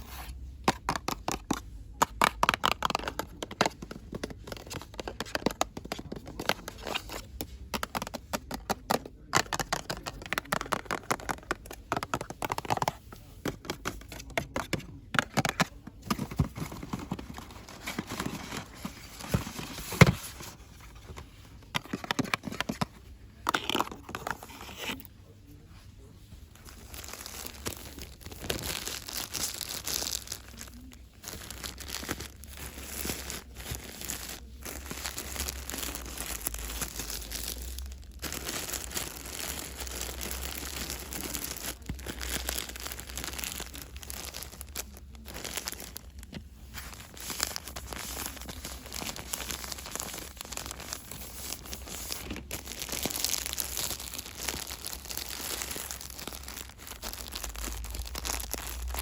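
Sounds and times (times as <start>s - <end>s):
packaging crinkling and rustling: 2.4s - 25.1s, 26.5s - 59.0s.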